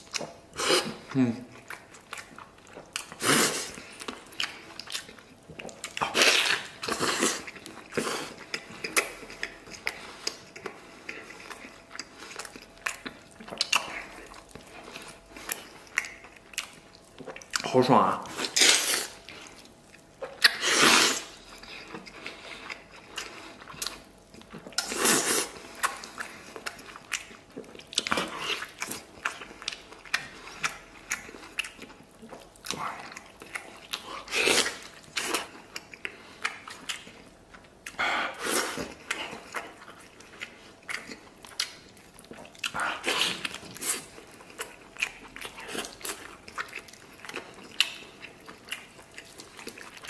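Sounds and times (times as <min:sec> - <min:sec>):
man chewing meat: 0:00.0 - 0:50.0.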